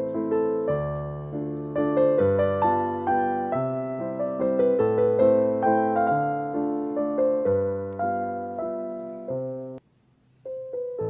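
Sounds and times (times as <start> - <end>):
piano music: 0.0 - 9.8, 10.4 - 11.0.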